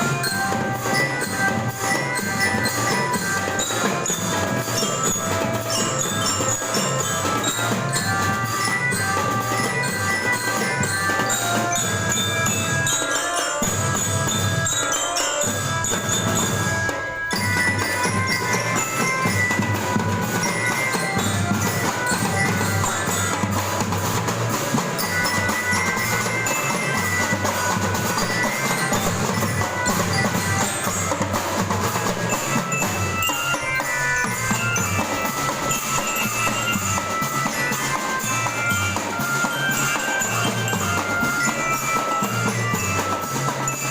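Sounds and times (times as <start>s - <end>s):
bell lyra melody: 0.0s - 43.9s
marching drums: 0.0s - 43.9s.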